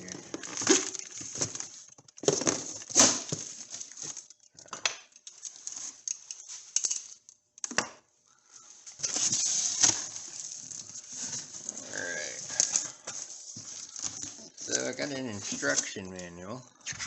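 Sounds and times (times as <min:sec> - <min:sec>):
packaging rustling and crinkling: 0:00.0 - 0:07.3, 0:08.3 - 0:16.4.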